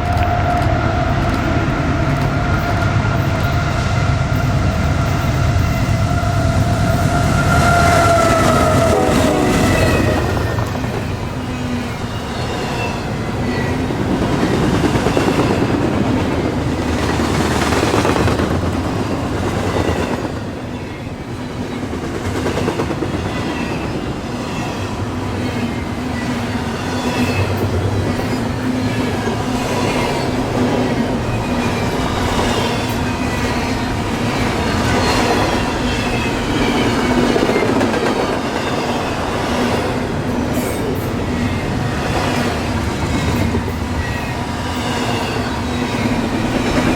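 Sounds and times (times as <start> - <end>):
freight train wheels clicking on rails: 0.0 - 46.9.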